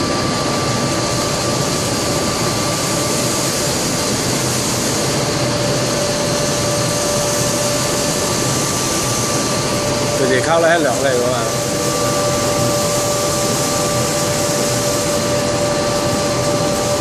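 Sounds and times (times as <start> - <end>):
furnace burner and fans rushing: 0.0 - 17.0
steady whining tones: 0.0 - 17.0.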